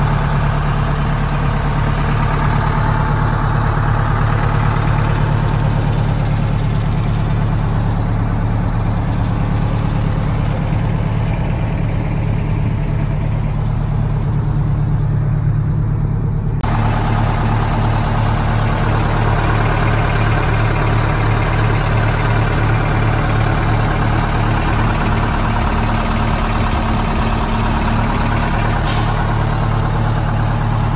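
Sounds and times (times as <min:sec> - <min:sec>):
fire truck engine idling: 0:00.0 - 0:30.9.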